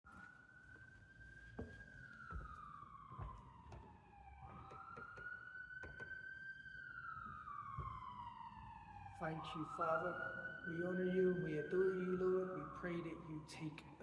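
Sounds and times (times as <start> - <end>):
emergency siren wailing faintly: 0.0 - 14.0.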